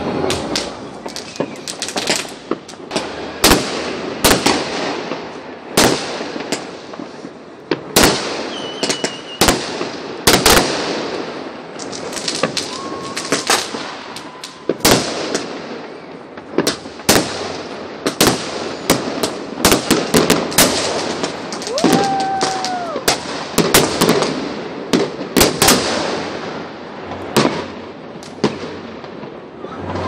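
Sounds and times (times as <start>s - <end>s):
fireworks bangs: 0.0s - 30.0s
fireworks crackling: 0.0s - 30.0s.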